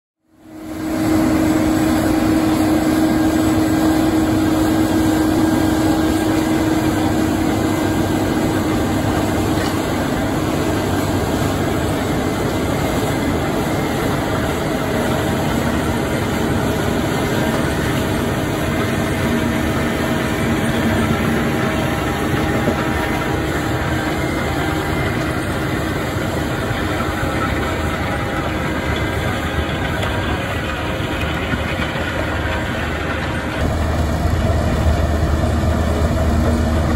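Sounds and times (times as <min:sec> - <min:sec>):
tractor engine running under load: 0:00.3 - 0:36.9
rotor grinding through ground: 0:01.0 - 0:36.9.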